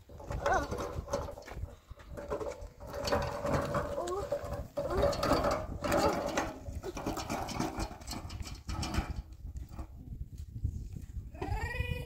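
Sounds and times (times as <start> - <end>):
metal wheelbarrow rattling on stones: 0.0 - 10.0.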